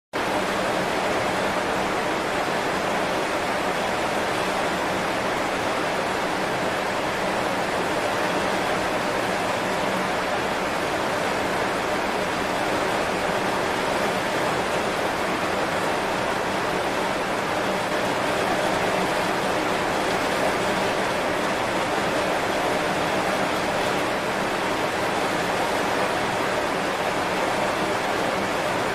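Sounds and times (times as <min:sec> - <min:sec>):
heavy rain on leaves: 0:00.2 - 0:28.9.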